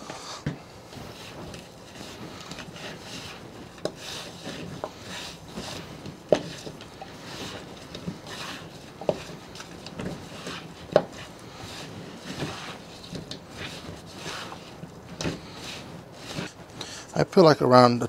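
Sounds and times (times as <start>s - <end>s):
chicken rubbed in plastic bowl: 0.8s - 16.7s.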